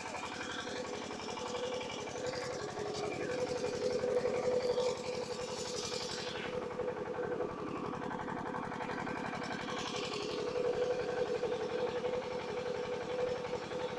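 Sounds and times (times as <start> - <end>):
engine idling: 0.0 - 13.9.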